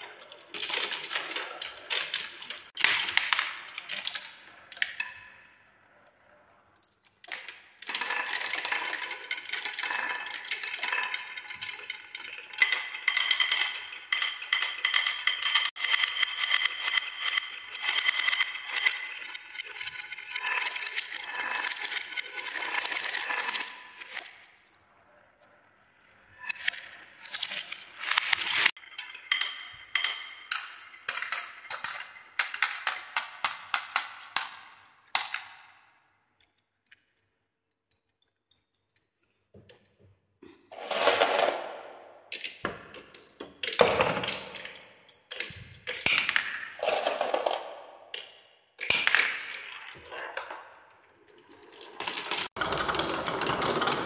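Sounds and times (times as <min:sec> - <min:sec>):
marbles clacking on wooden tracks: 0:00.0 - 0:37.2, 0:40.7 - 0:54.0.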